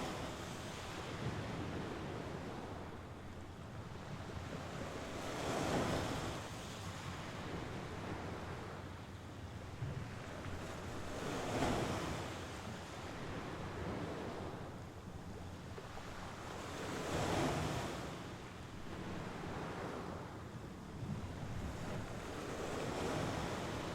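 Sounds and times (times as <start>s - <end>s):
sea waves breaking on shore: 0.0s - 23.9s.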